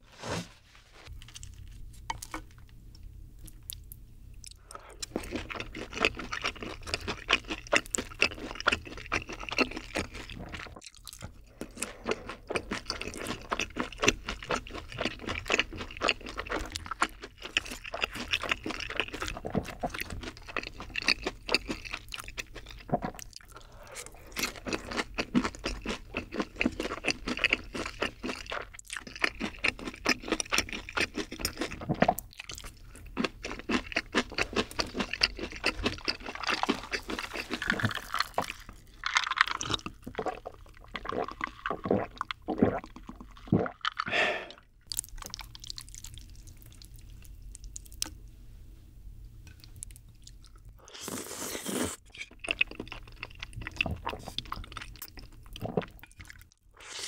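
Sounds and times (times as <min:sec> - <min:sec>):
person chewing food: 0:01.0 - 0:48.2, 0:49.4 - 0:57.0
gulping a drink with ice: 0:04.5 - 0:46.5, 0:50.8 - 0:57.0.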